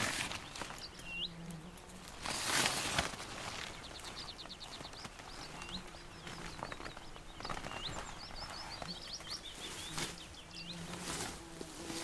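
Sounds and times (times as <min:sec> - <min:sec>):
songbirds singing: 0:00.0 - 0:12.0.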